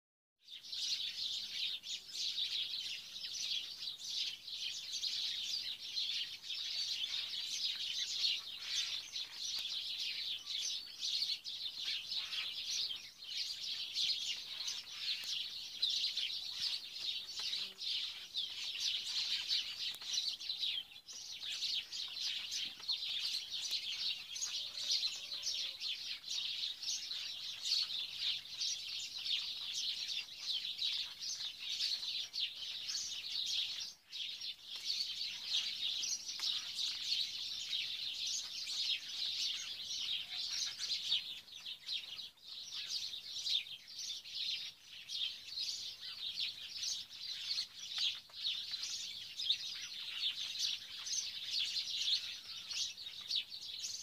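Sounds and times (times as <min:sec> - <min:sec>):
small birds chirping: 0:00.4 - 0:54.0.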